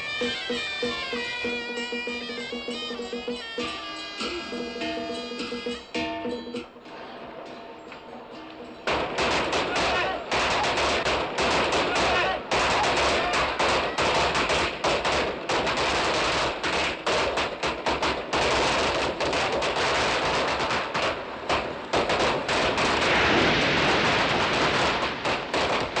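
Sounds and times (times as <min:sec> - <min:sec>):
firecrackers crackling: 0:00.0 - 0:26.0.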